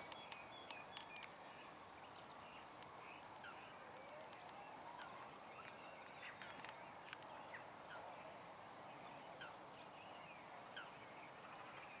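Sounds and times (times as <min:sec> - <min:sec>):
small birds chirping: 0:00.0 - 0:08.2, 0:08.9 - 0:12.0.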